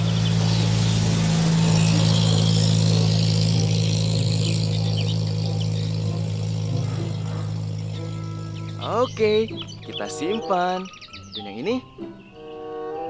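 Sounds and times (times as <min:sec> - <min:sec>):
vehicle engine passing by: 0:00.0 - 0:10.7
steady low hum: 0:00.0 - 0:10.8.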